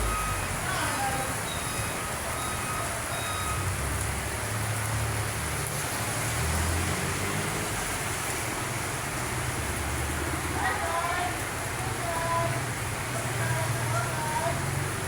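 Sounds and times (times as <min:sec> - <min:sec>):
steady rain falling: 0:00.0 - 0:15.0
vehicle engine rumble: 0:00.0 - 0:15.0.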